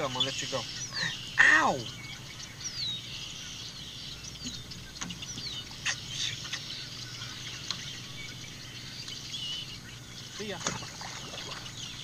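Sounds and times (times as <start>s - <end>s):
birds whistling: 0.0s - 12.0s.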